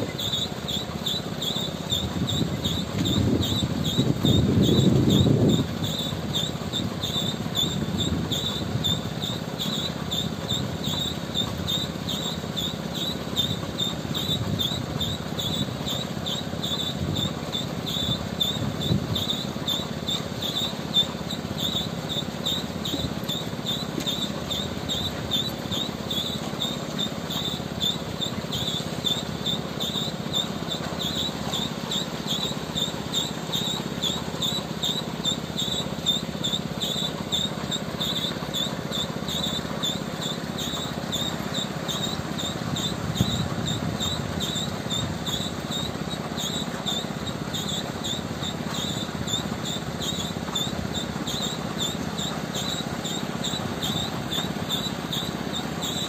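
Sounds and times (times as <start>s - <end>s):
diesel truck engine humming: 0.0s - 56.0s
regular high chirp: 0.0s - 56.0s.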